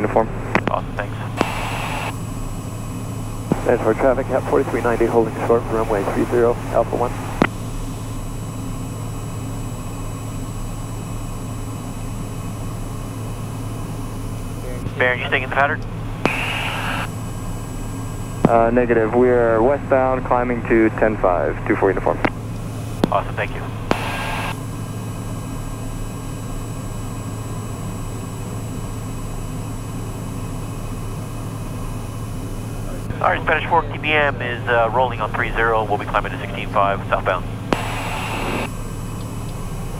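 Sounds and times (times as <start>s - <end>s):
turboprop engine idling: 0.0s - 39.9s.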